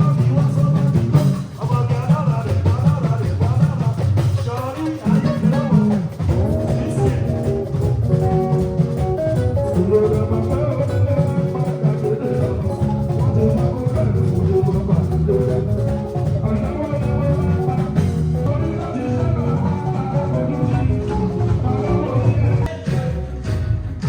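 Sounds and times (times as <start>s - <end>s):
drums and percussion: 0.0s - 24.0s.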